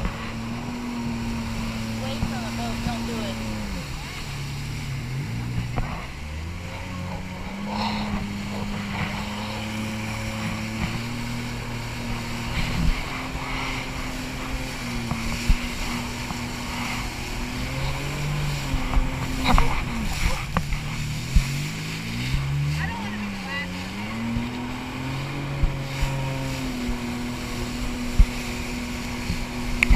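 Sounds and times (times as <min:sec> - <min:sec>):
hull slapping water: 0:00.0 - 0:29.9
jet ski engine: 0:00.0 - 0:29.9
spray and wind rushing: 0:00.0 - 0:29.9.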